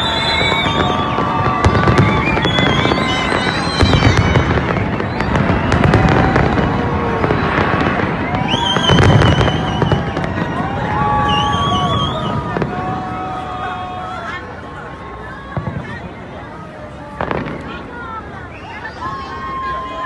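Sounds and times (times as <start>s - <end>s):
fireworks bursting and crackling: 0.0s - 19.8s.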